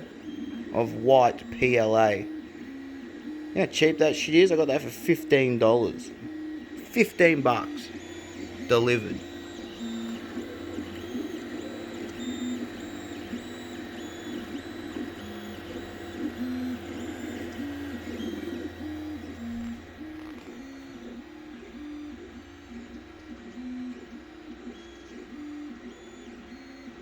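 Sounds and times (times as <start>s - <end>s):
stepper motors whining: 0.0s - 23.4s.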